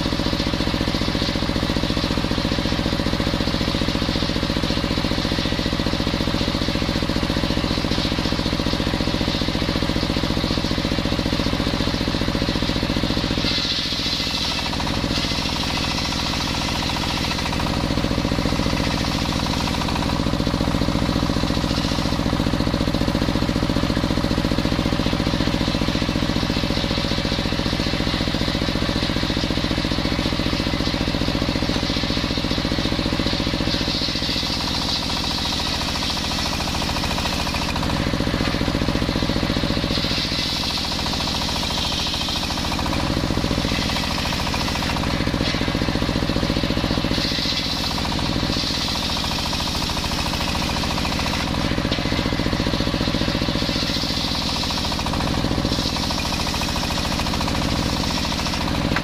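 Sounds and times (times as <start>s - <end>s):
engine running with rhythmic knock: 0.0s - 59.0s
circular saw blade cutting wood: 0.8s - 23.7s, 24.6s - 59.0s.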